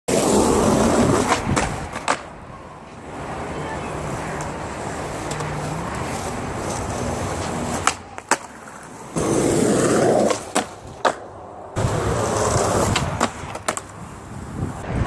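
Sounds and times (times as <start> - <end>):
skateboard clacking on ground: 0.1 - 3.0, 4.2 - 14.0
skateboard wheels rolling on pavement: 0.1 - 15.0.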